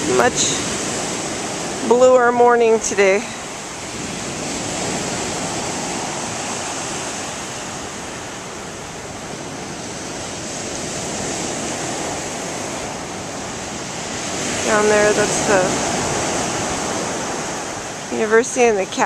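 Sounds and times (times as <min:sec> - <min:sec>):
surf breaking on shore: 0:00.0 - 0:19.0.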